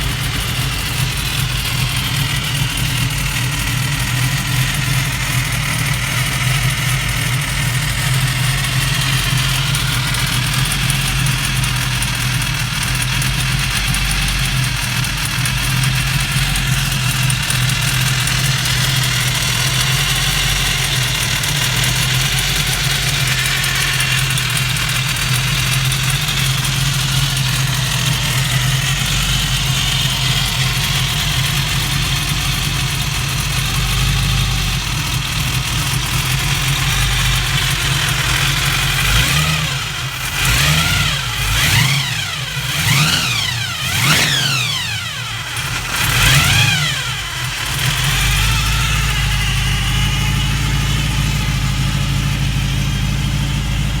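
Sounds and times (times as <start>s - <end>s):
engine revving: 0.0s - 54.0s
supercharged engine idling: 0.0s - 54.0s.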